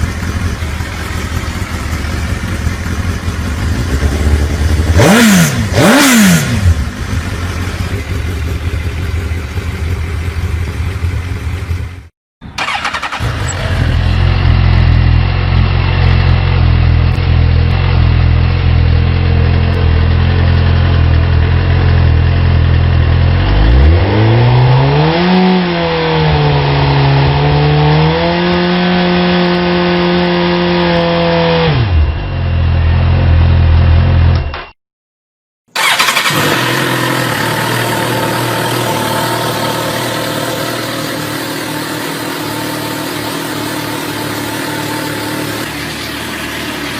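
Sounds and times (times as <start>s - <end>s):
motorcycle engine idling and revving: 0.0s - 34.7s, 35.7s - 46.9s.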